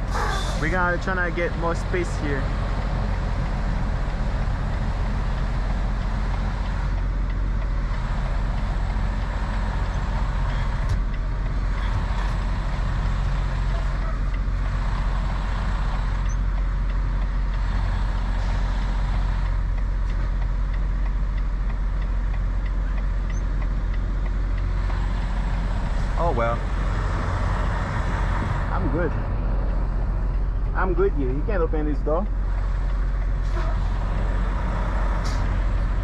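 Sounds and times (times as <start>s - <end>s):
truck diesel engine idling: 0.0s - 36.0s.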